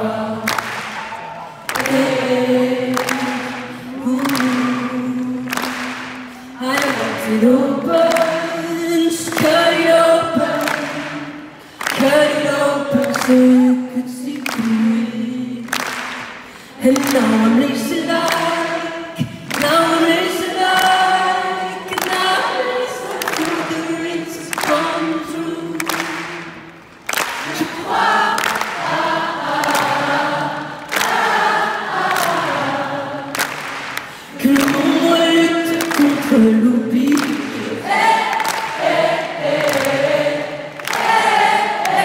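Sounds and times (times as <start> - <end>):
crowd singing in chorus: 0.0 - 42.0
lead singer singing: 0.0 - 42.0.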